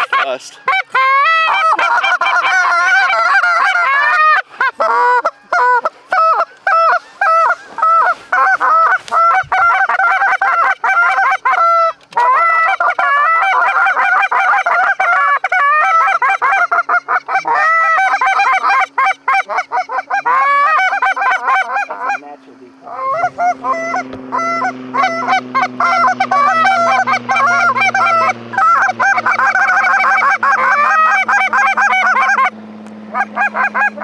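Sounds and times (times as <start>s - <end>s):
geese honking: 0.0s - 34.0s.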